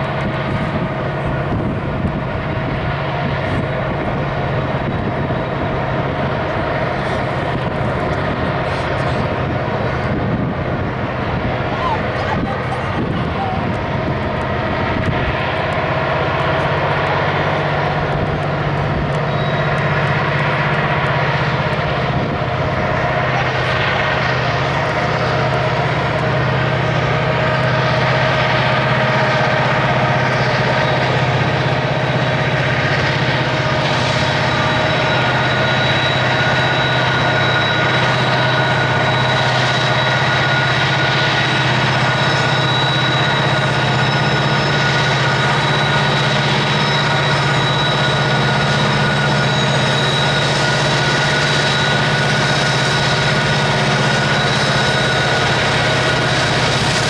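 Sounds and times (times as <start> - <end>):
high whine: 0.0 - 57.0
locomotive engines droning: 0.0 - 57.0.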